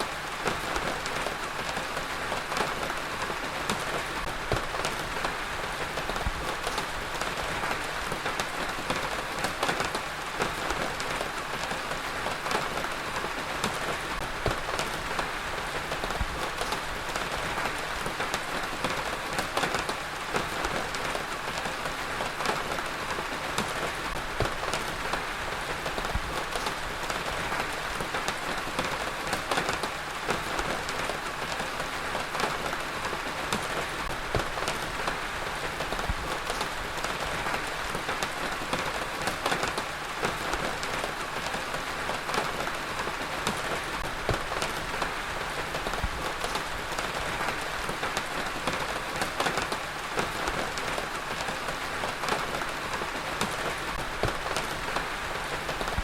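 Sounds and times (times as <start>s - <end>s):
heavy rain falling: 0.0s - 56.0s
raindrops tapping on a surface: 0.1s - 56.0s.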